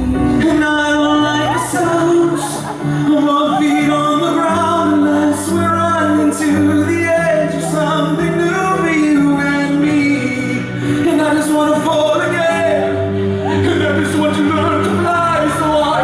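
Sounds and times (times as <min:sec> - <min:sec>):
male vocal group singing: 0:00.0 - 0:16.0.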